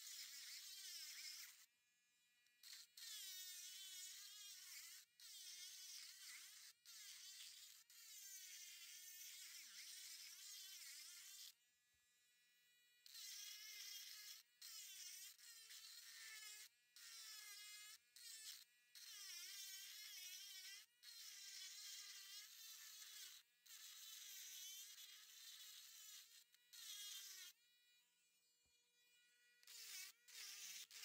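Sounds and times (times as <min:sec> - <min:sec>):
rotary tool grinding rock: 0:00.0 - 0:01.7, 0:02.6 - 0:11.6, 0:13.1 - 0:27.6, 0:29.2 - 0:31.0.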